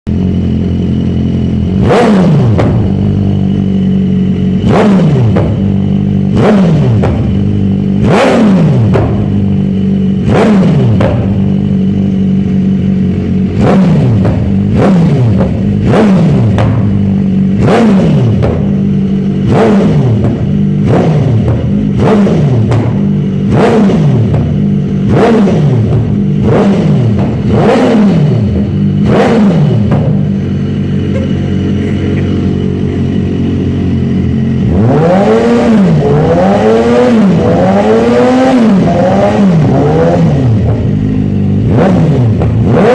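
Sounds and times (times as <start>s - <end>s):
motorcycle engine revving from idle: 0.1s - 42.9s.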